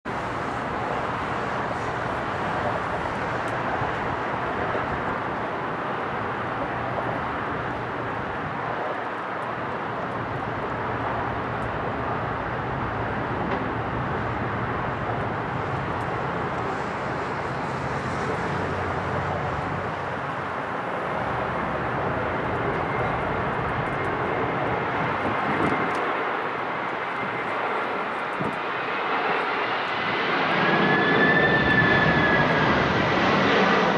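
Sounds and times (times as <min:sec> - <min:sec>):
jet engine whine: 0:00.0 - 0:33.9
jet engine rushing noise: 0:00.1 - 0:33.9.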